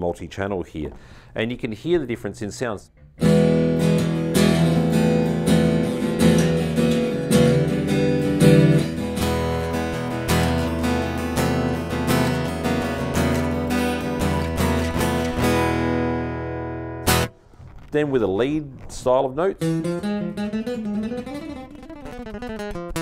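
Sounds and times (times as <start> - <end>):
acoustic guitar strumming chords: 3.0 - 17.9, 19.5 - 23.0.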